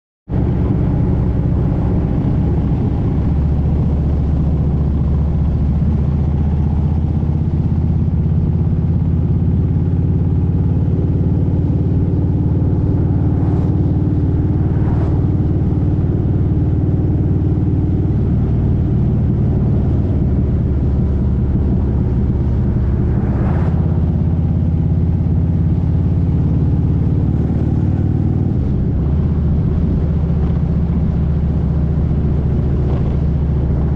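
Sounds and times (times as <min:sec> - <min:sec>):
motorcycle engine running: 0:00.3 - 0:33.9.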